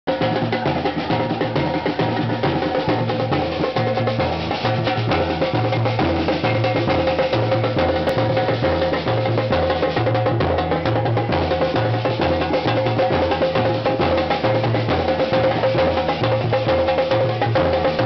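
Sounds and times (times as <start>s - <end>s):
snare drums and repinique rattling: 0.1s - 18.0s
surdo bass drum strokes: 0.1s - 18.0s.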